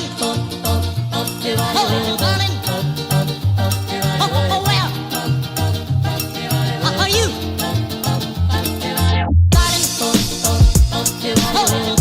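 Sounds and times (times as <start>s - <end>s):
upbeat latin song with vocals: 0.0s - 12.0s.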